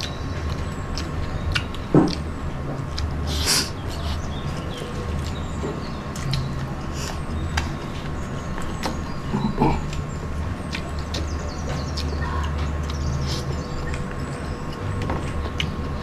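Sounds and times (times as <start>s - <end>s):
chewing and mouth noises: 0.0s - 16.0s
steady low hum: 0.0s - 16.0s.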